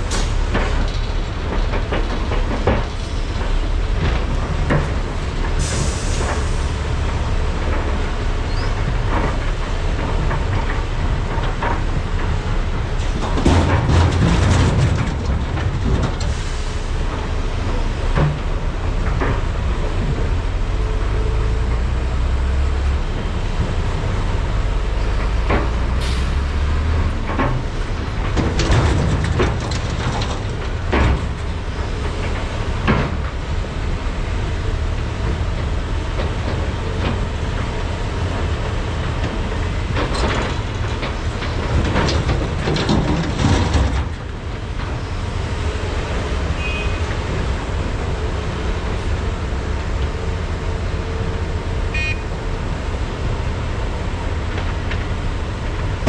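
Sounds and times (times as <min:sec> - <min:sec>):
excavator diesel engines running: 0:00.0 - 0:56.0.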